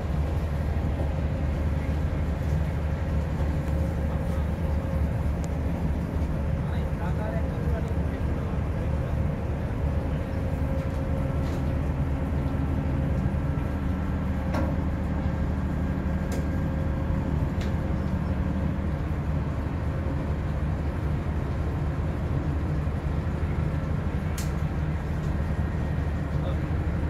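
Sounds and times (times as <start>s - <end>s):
ship engine droning: 0.0s - 27.0s.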